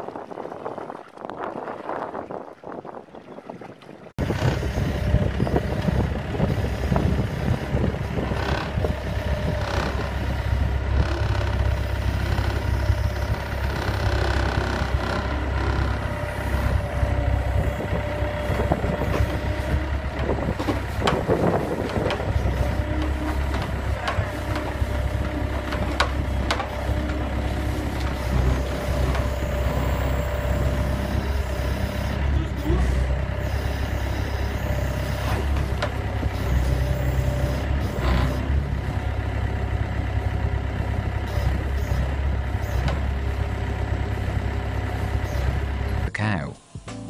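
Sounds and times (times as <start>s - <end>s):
loader engine running: 4.2s - 47.0s.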